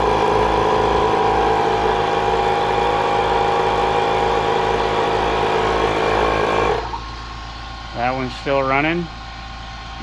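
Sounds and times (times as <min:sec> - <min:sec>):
air compressor whining hum: 0:00.0 - 0:10.0.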